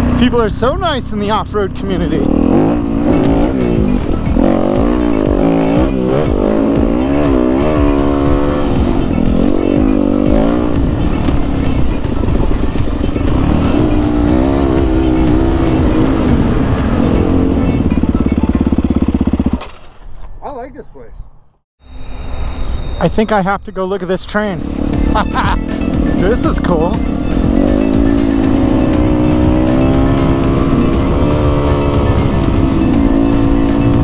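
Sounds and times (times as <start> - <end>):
motorcycle engine revving: 0.0 - 20.0, 24.2 - 34.0.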